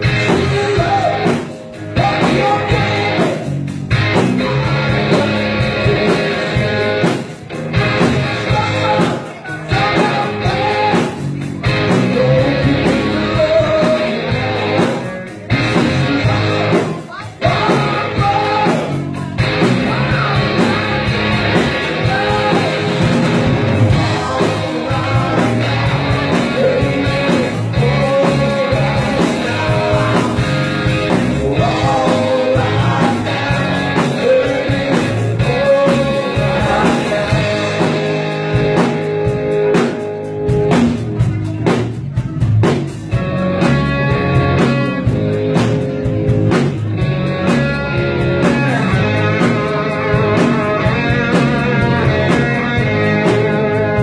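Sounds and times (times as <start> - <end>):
person singing: 0.0 - 38.9, 47.4 - 54.0
bass guitar: 0.0 - 54.0
drum kit: 0.0 - 54.0
electric guitar: 0.0 - 54.0.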